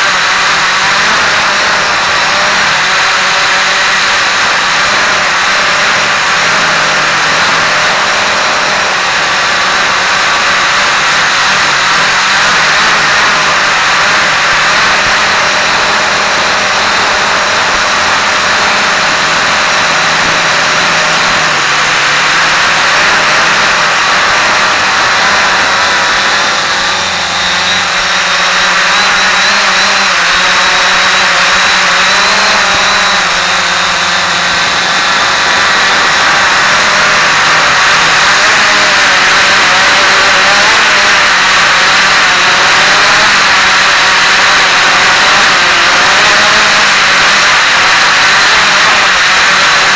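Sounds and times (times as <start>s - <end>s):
quadcopter propellers buzzing: 0.0s - 49.9s.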